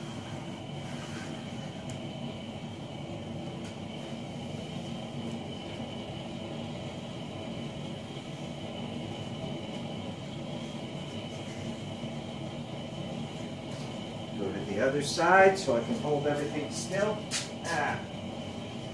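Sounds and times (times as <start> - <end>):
heater drone: 0.0 - 18.9.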